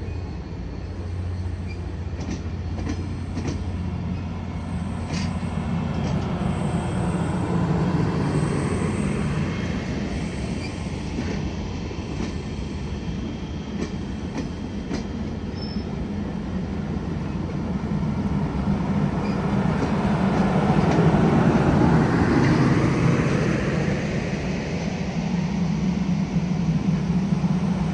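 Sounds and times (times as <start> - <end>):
train rumbling past: 0.0 - 27.9.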